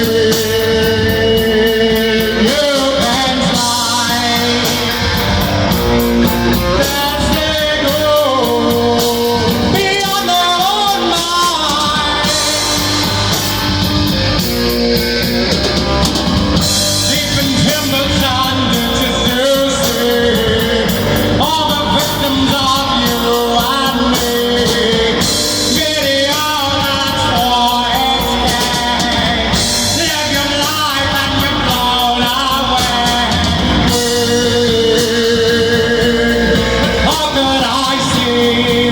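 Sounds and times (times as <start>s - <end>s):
person singing: 0.0s - 38.9s
rock band playing: 0.0s - 38.9s.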